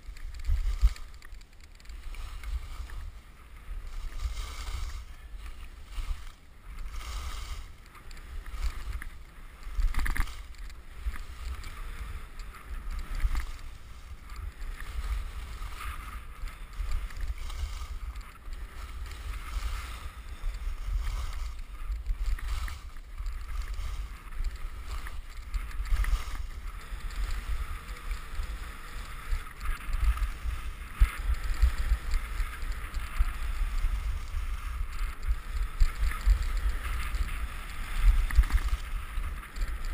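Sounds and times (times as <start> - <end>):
skis scraping on snow: 0.0 - 39.9
wind buffeting microphone: 2.1 - 39.9.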